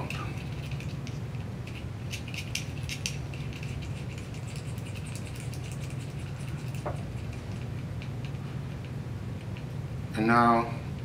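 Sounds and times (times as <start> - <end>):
nut threading clicks and scratches: 0.0 - 9.8
steady low hum: 0.0 - 11.0.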